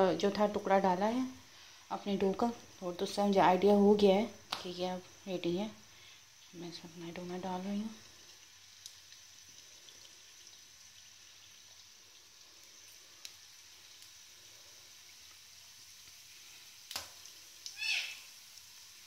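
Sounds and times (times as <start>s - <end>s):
dough sizzling in hot oil: 0.0s - 19.0s.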